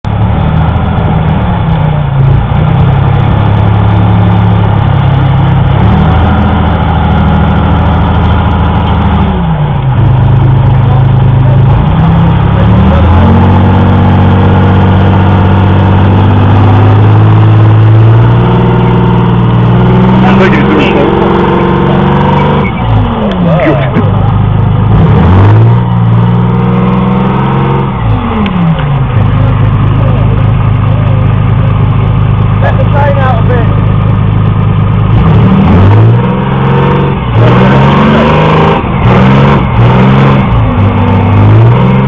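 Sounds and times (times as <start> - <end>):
tracked vehicle engine running hard: 0.0 - 42.0.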